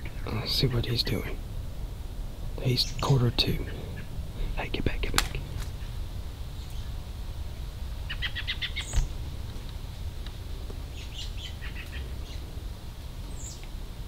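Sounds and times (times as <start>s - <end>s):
low background rumble: 0.0s - 14.0s
songbird chirping: 0.0s - 14.0s.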